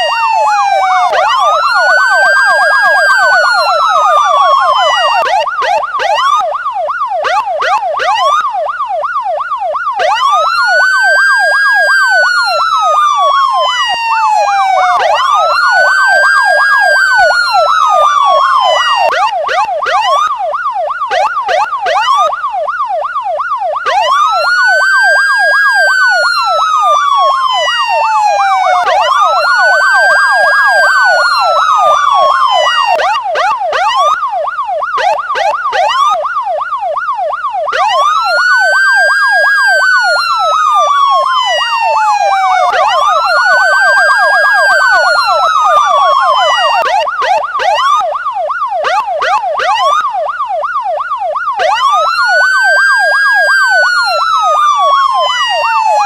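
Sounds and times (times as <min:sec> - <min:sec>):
police siren wail: 0:00.0 - 0:56.0
siren yelp warbling: 0:00.0 - 0:56.0.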